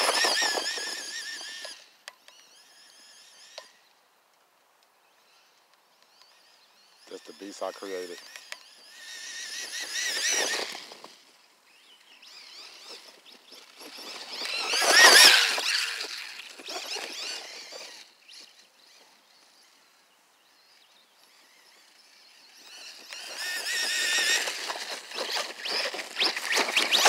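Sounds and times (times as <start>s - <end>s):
rc car motor whining: 0.0s - 3.9s, 5.3s - 27.0s.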